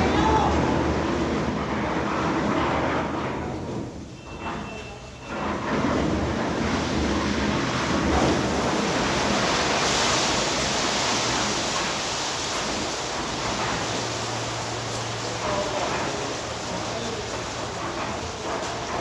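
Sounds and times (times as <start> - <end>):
wet concrete pouring: 0.0 - 19.0.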